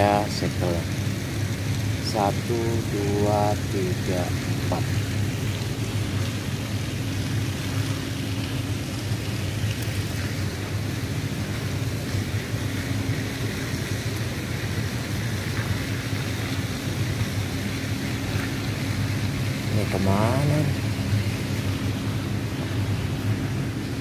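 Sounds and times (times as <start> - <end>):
constant hiss: 0.0 - 24.0
low machinery hum: 0.0 - 24.0.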